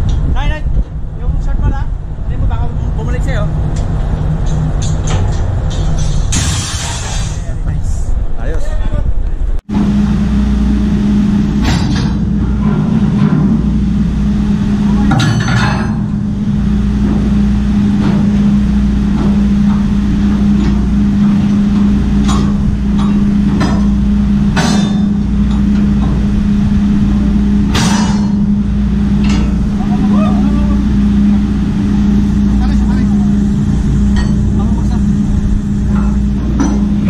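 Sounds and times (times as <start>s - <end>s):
loud machinery hum: 0.0s - 37.0s
steel lashing bars clanking: 3.7s - 7.5s, 10.6s - 37.0s.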